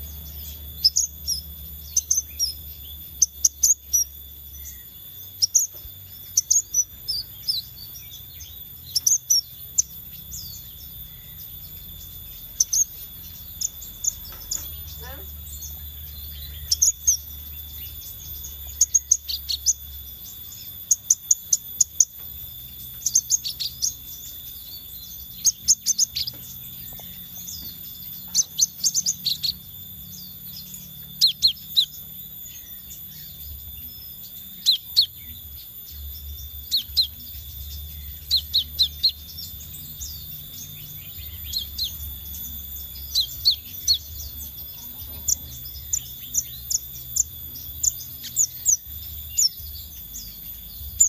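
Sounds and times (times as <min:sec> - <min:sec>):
bird calling high sharp notes: 0:00.0 - 0:51.0
low hum: 0:00.0 - 0:51.0
thin high tone: 0:00.0 - 0:51.0.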